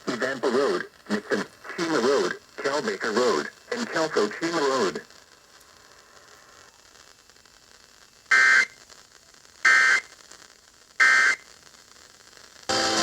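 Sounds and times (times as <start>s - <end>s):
faint radio hiss: 0.0s - 13.0s.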